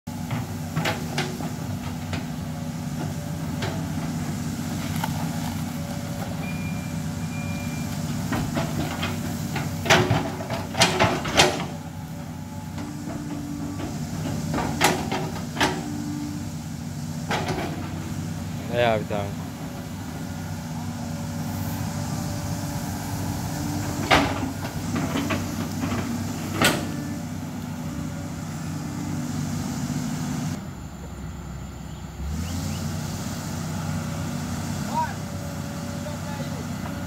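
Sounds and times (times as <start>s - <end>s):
excavator diesel engine running: 0.1s - 37.0s.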